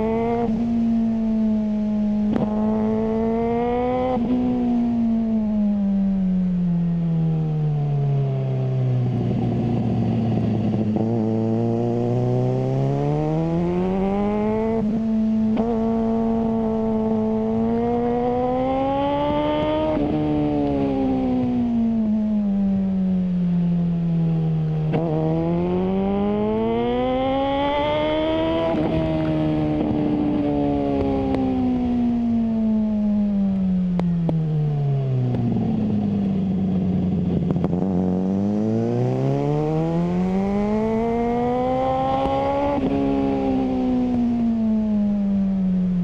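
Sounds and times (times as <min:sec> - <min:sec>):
motorcycle engine revving: 0:00.0 - 0:05.9, 0:08.6 - 0:46.0.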